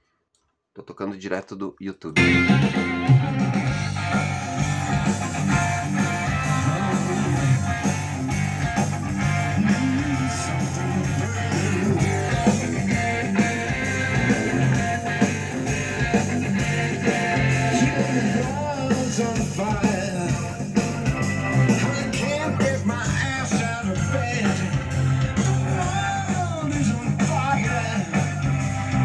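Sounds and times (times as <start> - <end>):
hard rock song through speakers: 2.2 - 29.0.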